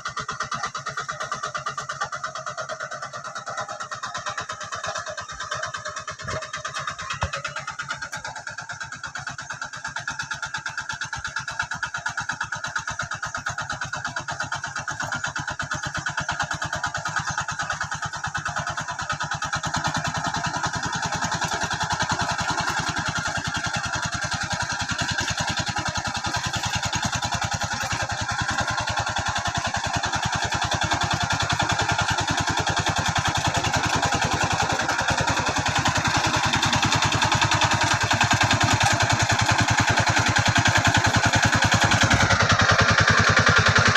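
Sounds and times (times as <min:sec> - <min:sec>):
hand tractor engine running: 0:00.0 - 0:43.9.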